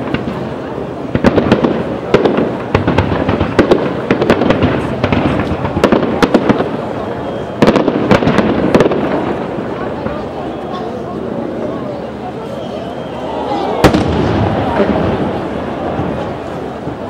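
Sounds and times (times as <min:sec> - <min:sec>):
firework bangs and cracks: 0:00.0 - 0:11.0, 0:13.1 - 0:17.0
continuous noisy din: 0:00.0 - 0:17.0.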